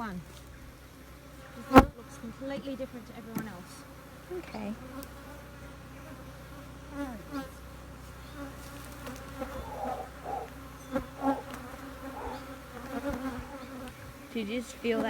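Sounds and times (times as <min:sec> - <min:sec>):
bee buzzing past: 0:00.0 - 0:15.0
bees humming drone: 0:00.0 - 0:15.0.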